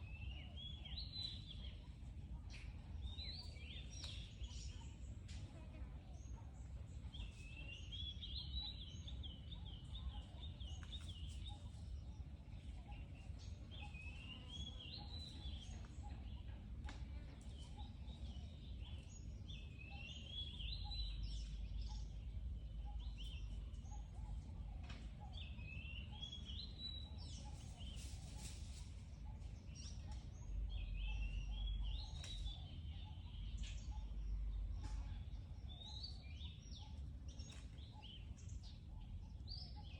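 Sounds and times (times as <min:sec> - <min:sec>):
low outdoor rumble: 0:00.0 - 0:39.9.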